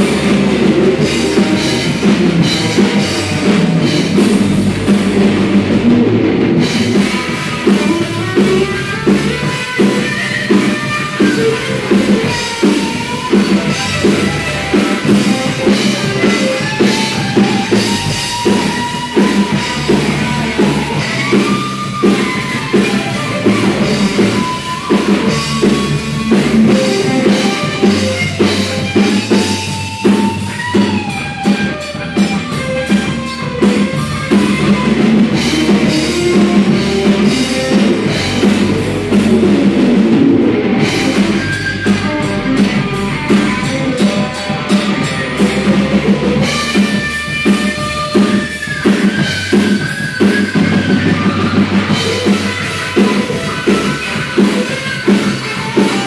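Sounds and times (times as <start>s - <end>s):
drum kit beat: 0.0s - 56.0s
electric lead guitar: 0.0s - 56.0s.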